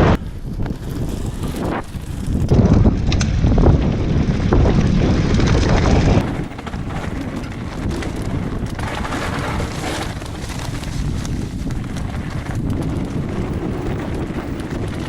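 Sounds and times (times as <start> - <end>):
bike tyre rumble: 0.0 - 15.0
wind buffeting microphone: 0.0 - 15.0.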